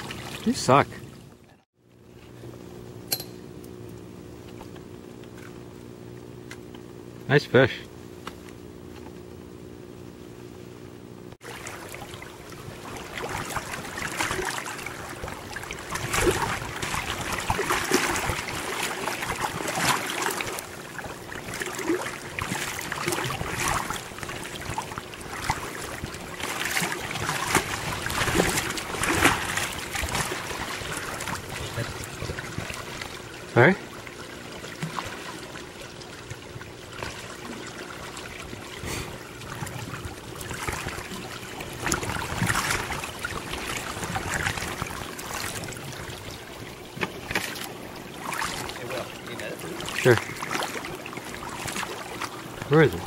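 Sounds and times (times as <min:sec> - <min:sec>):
oars splashing in water: 0:00.0 - 0:01.6, 0:11.4 - 0:53.0
faint steady hum: 0:00.0 - 0:53.0
river water noise: 0:00.0 - 0:53.0.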